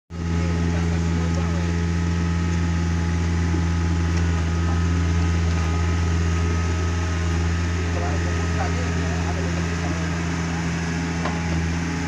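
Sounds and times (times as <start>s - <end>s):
excavator diesel engine running: 0.1s - 12.0s.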